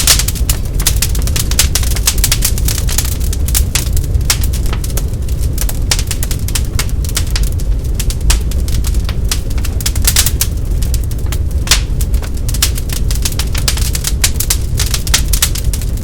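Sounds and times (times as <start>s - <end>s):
log fire crackling and popping: 0.0s - 16.0s
low rumble of burning fire: 0.0s - 16.0s.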